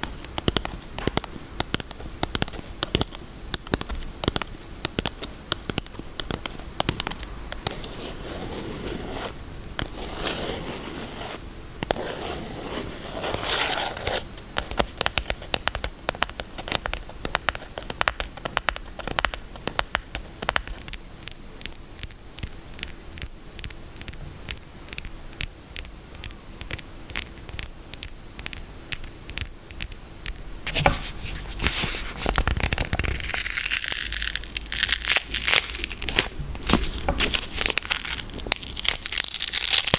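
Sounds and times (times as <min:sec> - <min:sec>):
scratching on soap packaging: 0:00.0 - 0:39.9.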